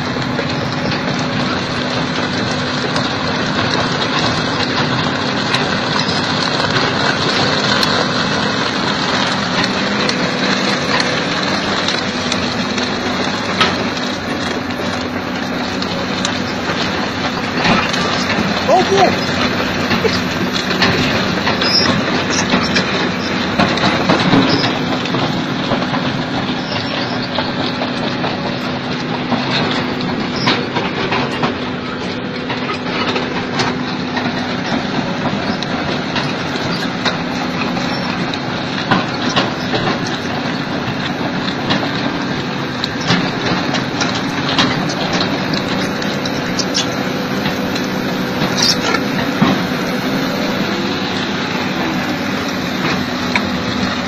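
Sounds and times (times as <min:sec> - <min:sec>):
drum cutter grinding rock: 0:00.0 - 0:54.0
excavator engine drone: 0:00.0 - 0:54.0.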